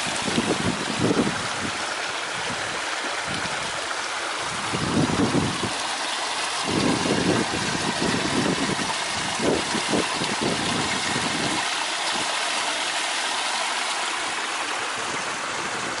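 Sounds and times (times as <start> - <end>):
small waterfall splashing: 0.0 - 16.0.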